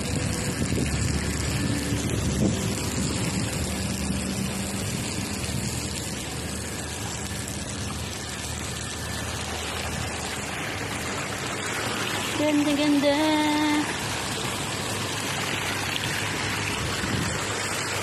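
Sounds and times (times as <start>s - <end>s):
water rushing over paving: 0.0s - 18.0s.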